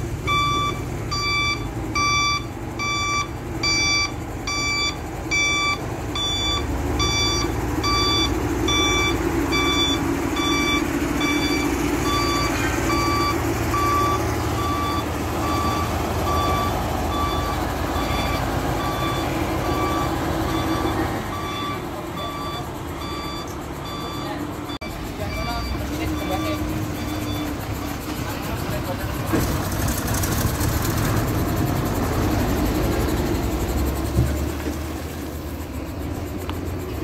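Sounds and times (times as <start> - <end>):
diesel engine rumble: 0.0 - 37.0
truck reversing alarm beeping: 0.0 - 37.0.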